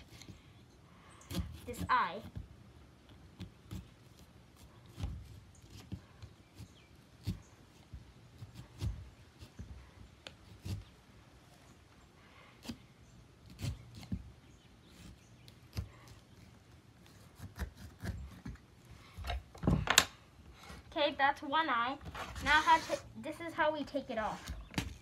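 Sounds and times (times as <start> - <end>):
saw scraping pumpkin rind: 1.1 - 11.6, 12.2 - 19.2, 22.0 - 25.0.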